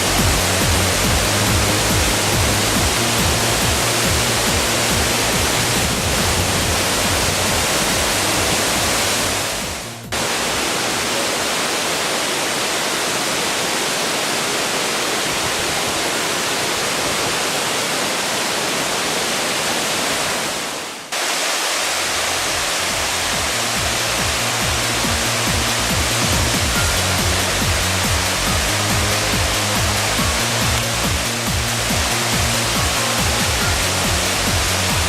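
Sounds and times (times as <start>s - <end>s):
waterfall rushing and splashing: 0.0s - 35.0s.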